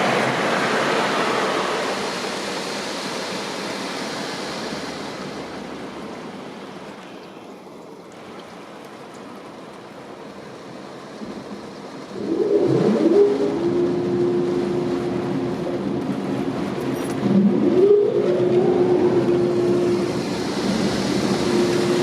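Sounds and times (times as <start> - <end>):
car wash spray rushing: 0.0 - 9.7, 10.3 - 22.0.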